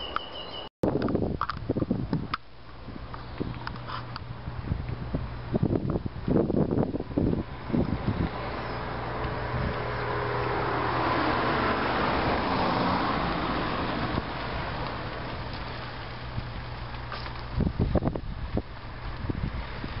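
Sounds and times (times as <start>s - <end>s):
vehicle passing on road: 2.8s - 20.0s.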